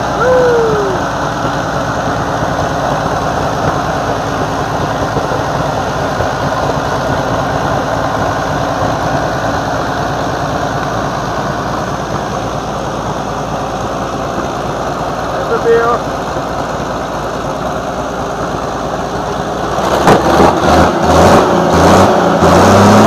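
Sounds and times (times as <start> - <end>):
tank engine running: 0.0 - 23.0.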